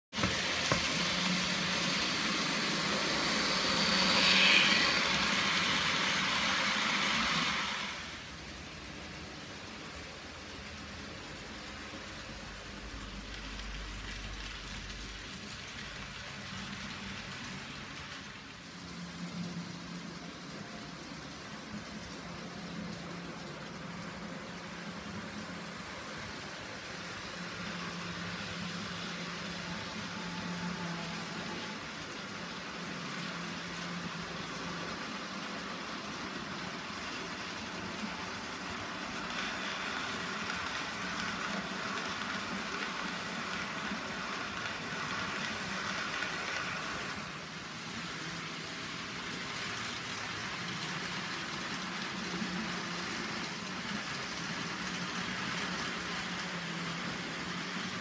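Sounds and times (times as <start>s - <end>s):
small wheels on rails: 0.1s - 58.0s.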